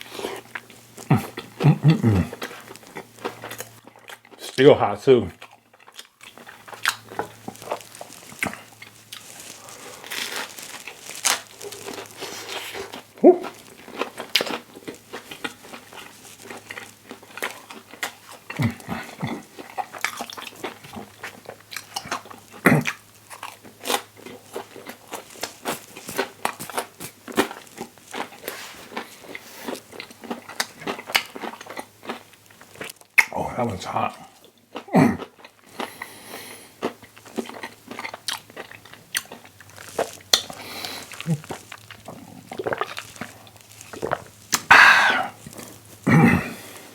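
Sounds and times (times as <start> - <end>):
crunchy bites and chewing: 0.0 - 4.6, 5.3 - 46.9.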